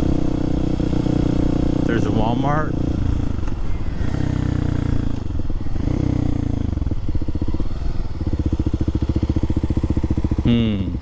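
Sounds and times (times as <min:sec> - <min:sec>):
motorcycle engine running and idling: 0:00.0 - 0:11.0.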